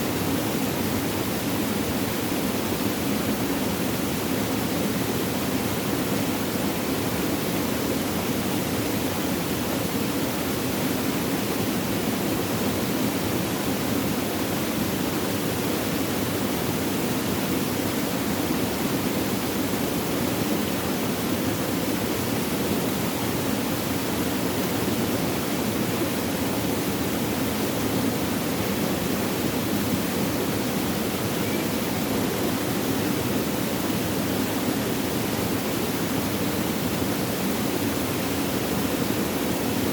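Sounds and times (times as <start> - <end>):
running water rushing: 0.1 - 39.9.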